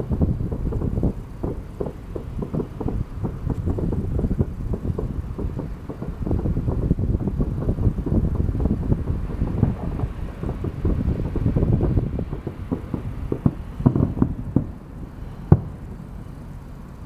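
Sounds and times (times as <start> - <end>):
sharp firework bang: 0.0 - 15.9
distant fireworks booming: 0.0 - 17.0.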